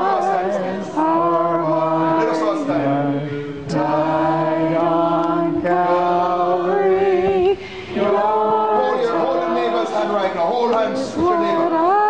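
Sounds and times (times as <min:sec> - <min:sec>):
man singing a hymn: 0:00.0 - 0:12.0.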